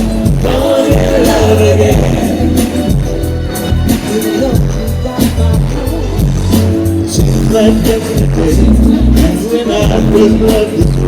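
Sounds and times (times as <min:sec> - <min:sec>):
person singing: 0:00.2 - 0:03.2, 0:03.9 - 0:11.0.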